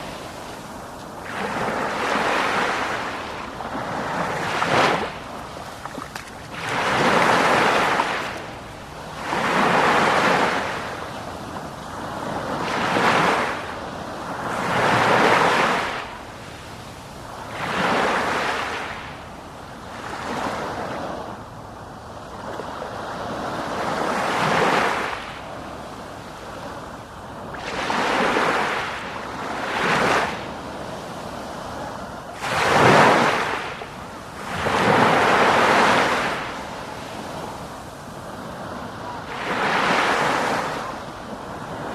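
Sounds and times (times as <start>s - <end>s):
ocean waves breaking: 0.0s - 19.2s, 22.3s - 41.9s.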